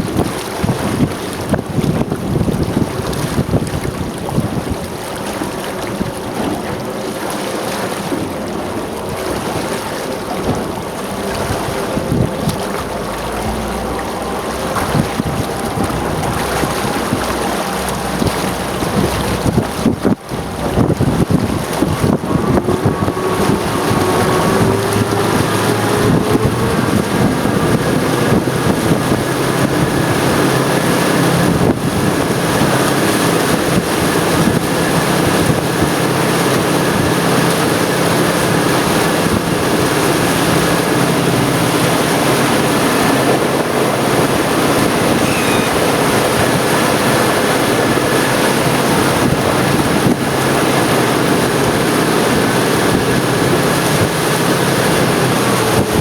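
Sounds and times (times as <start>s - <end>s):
outboard motor running: 0.0s - 56.0s
water rushing: 0.0s - 56.0s
wind buffeting microphone: 0.0s - 56.0s.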